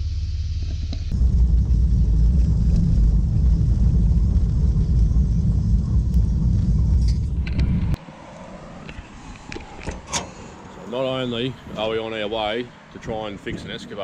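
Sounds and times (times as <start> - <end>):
vehicle driving rumble: 0.0 - 14.0.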